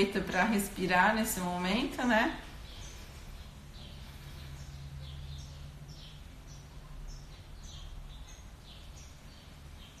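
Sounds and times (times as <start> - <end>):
birds chirping: 0.0 - 10.0
low steady hum: 0.0 - 10.0.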